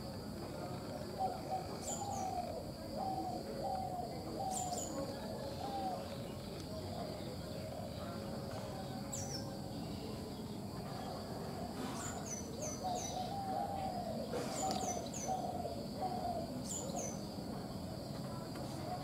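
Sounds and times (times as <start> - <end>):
steady high insect drone: 0.0 - 19.0
soft lower bird calls: 0.5 - 17.6
small bird chirping: 1.2 - 11.2, 11.8 - 17.4.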